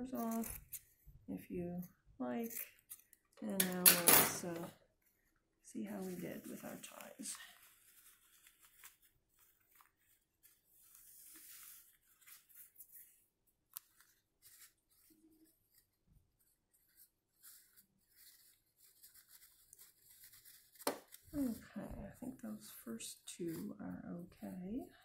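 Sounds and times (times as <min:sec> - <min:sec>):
fabric rustling and rubbing: 0:04.5 - 0:25.0.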